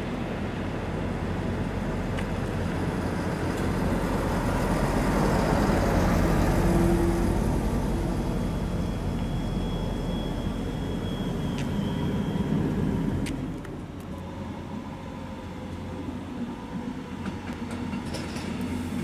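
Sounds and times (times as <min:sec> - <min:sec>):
diesel railcar rolling past: 0:00.0 - 0:19.0.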